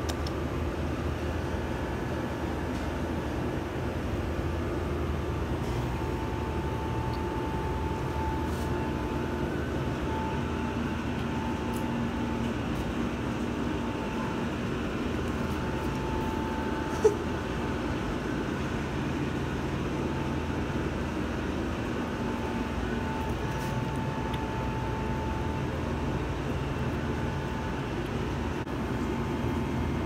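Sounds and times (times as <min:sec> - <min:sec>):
faint high hum: 0:00.0 - 0:30.0
low machinery rumble: 0:00.0 - 0:30.0.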